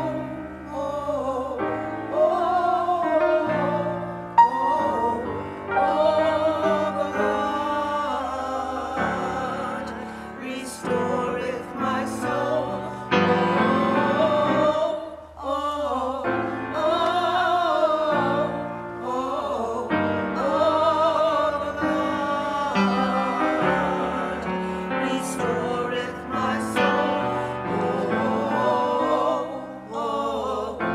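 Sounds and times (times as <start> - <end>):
piano accompaniment: 0.0 - 15.0, 16.3 - 30.9
classical singing with vibrato: 0.0 - 30.9.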